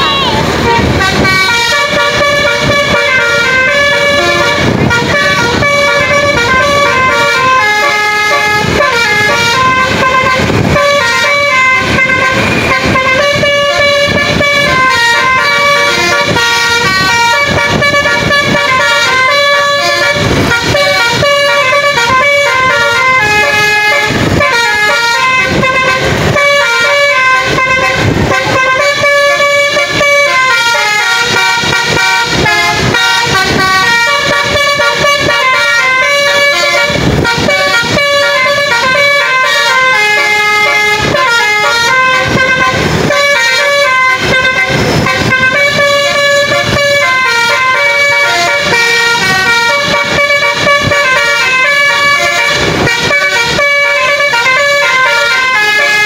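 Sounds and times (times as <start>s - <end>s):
musical air horn playing tune: 0.0s - 56.0s.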